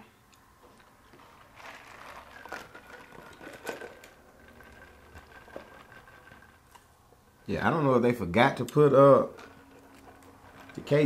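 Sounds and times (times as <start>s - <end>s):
eating and drinking sounds: 0.2s - 6.9s, 8.6s - 11.0s.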